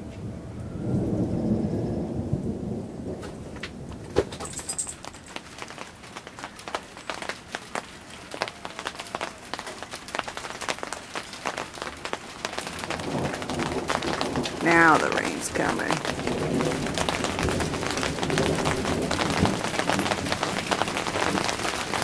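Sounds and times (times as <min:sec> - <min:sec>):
thunder rumbling: 0:00.0 - 0:04.4, 0:08.4 - 0:22.0
raindrops hitting surfaces: 0:00.0 - 0:22.0.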